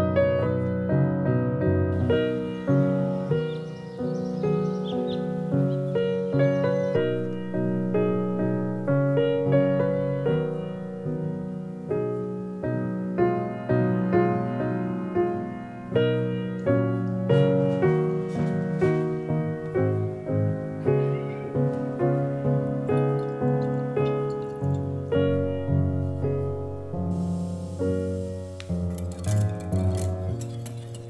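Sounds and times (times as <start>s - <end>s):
gentle solo piano piece: 0.0s - 31.0s.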